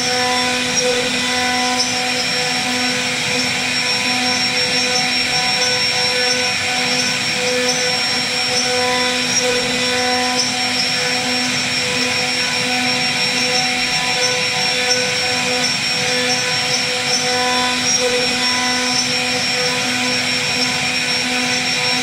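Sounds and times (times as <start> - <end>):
bit carving wood: 0.0 - 22.0
router spindle whining: 0.0 - 22.0.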